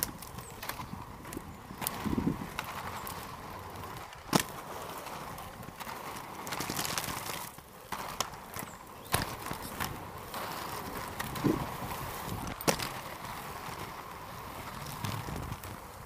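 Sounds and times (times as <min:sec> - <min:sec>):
skate wheels rolling on asphalt: 0:00.0 - 0:16.0
skates clicking and knocking: 0:00.0 - 0:16.0.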